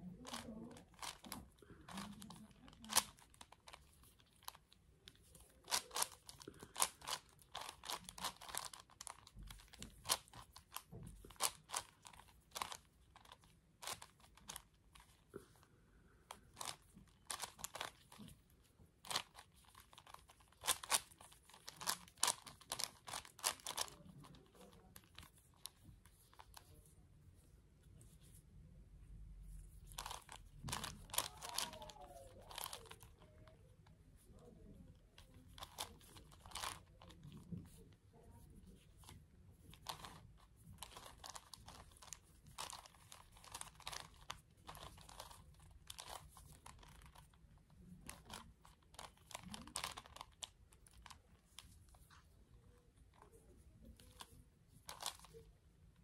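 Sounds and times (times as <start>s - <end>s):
puzzle cube clicking as turned: 0.2s - 15.6s, 16.2s - 26.7s, 29.7s - 33.6s, 35.2s - 37.9s, 38.7s - 52.3s, 53.1s - 55.5s.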